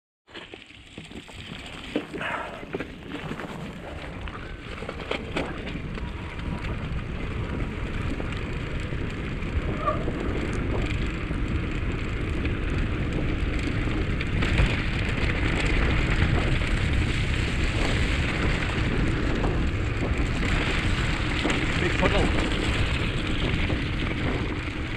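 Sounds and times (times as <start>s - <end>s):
bicycle tyres rolling through slush: 0.3s - 24.9s
wind rumbling on microphone: 1.0s - 24.9s.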